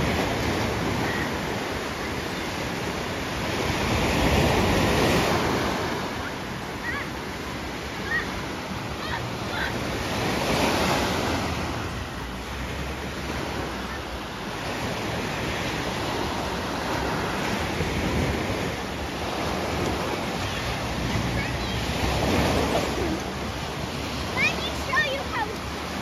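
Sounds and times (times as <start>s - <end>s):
small sea waves breaking: 0.0s - 26.0s.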